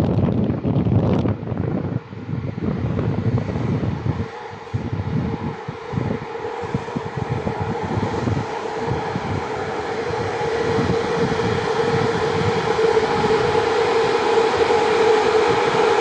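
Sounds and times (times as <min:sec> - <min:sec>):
electric locomotive whine and rumble: 0:00.0 - 0:16.0.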